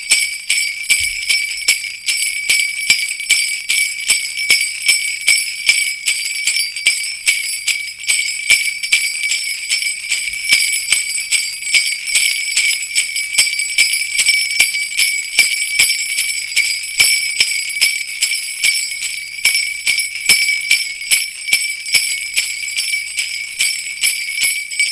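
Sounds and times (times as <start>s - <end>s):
sleigh bells jingling: 0.0s - 24.9s.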